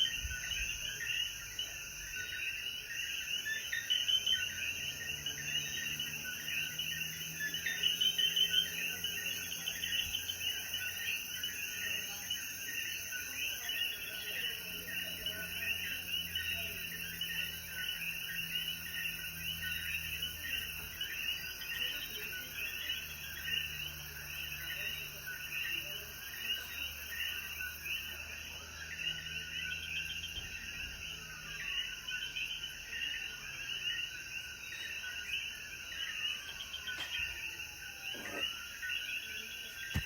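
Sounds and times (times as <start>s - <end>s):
frogs calling: 0.0s - 40.0s.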